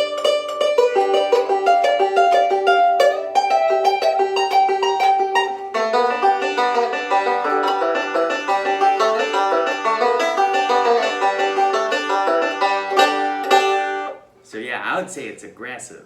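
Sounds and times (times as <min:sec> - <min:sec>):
banjo picking: 0:00.0 - 0:14.4.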